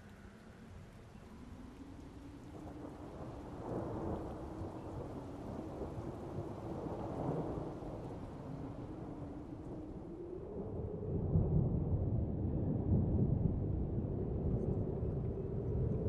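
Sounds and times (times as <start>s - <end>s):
steady rain: 0.0s - 16.0s
thunder rumbling: 2.0s - 16.0s.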